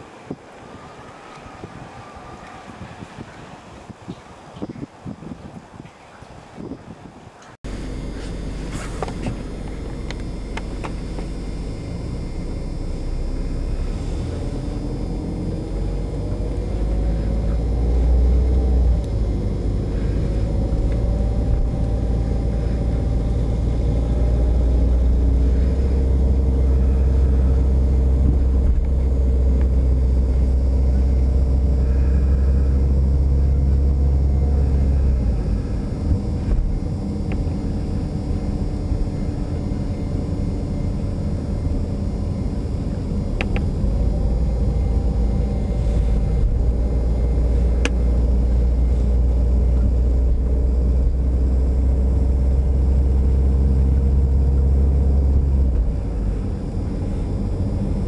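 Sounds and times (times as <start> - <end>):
car engine: 7.6 - 58.0.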